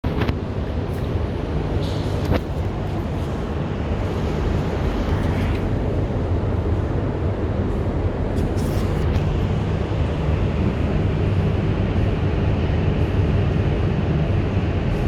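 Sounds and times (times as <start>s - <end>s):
machinery hum and rush: 0.0s - 15.0s.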